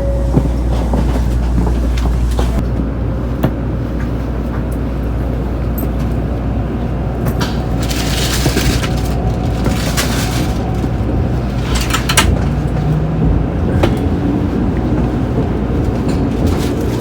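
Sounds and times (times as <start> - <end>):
train rumble inside passenger car: 0.0 - 17.0.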